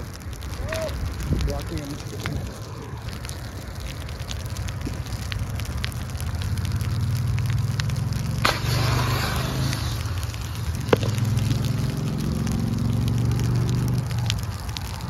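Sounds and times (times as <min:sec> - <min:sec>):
fire crackling: 0:00.0 - 0:15.0
sharp pops: 0:00.2 - 0:15.0
vehicle engine hum: 0:02.0 - 0:15.0.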